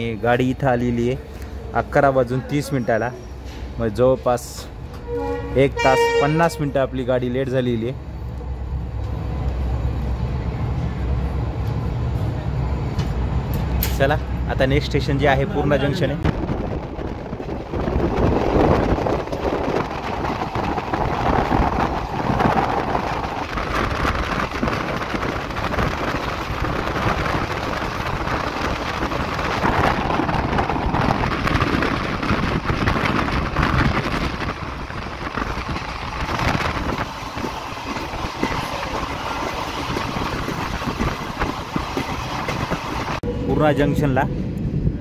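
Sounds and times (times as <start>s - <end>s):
train wheels rumbling and rattling: 0.0s - 45.0s.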